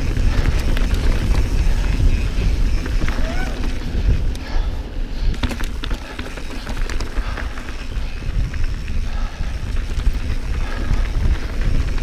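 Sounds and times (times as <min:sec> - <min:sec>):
bike rattles and knocks: 0:00.0 - 0:12.0
bike tyres rolling over dirt: 0:00.0 - 0:12.0
wind on microphone: 0:00.0 - 0:12.0.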